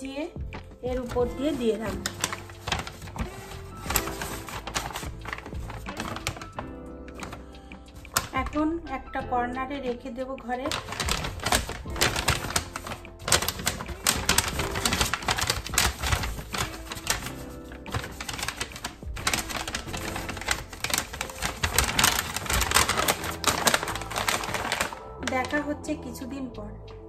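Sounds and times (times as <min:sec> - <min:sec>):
background music: 0:00.0 - 0:27.0
paper bag crinkling: 0:00.9 - 0:08.6, 0:10.6 - 0:25.8.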